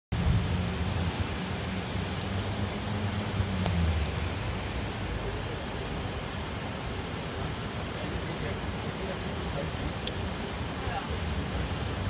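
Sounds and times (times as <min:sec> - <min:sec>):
heavy rain hissing: 0:00.1 - 0:12.0
raindrops ticking close by: 0:00.1 - 0:12.0.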